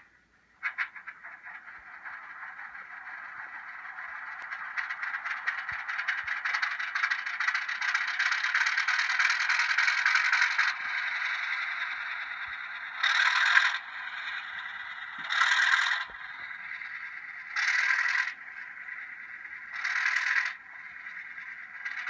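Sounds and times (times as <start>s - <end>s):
diesel engine through small speaker: 2.8s - 22.0s.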